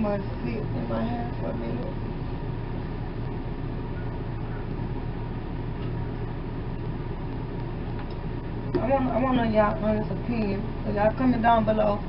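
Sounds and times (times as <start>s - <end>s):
fan humming with hiss: 0.0s - 12.0s.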